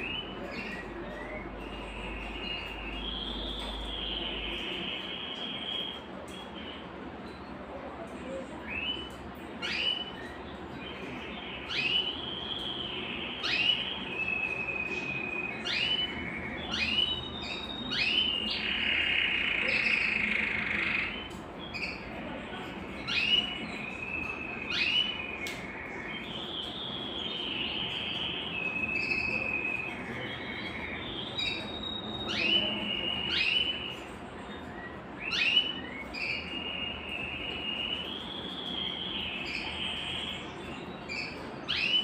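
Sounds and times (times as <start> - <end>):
canary singing: 0.0 - 7.6, 8.2 - 42.0.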